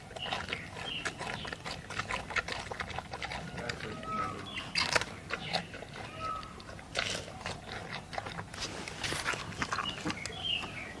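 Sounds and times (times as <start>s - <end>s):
panda chewing bamboo: 0.0s - 11.0s.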